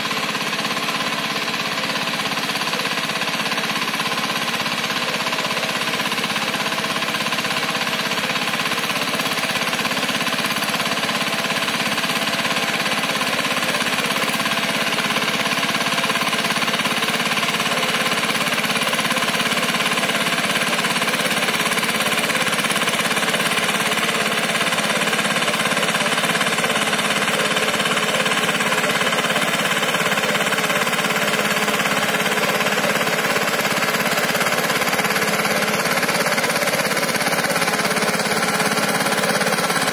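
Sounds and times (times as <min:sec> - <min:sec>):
diesel tiller engine chugging: 0:00.0 - 0:39.9.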